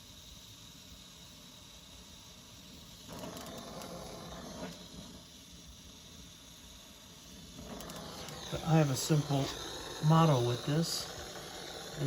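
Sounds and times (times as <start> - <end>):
brazing torch flame hissing: 0.0 - 12.0.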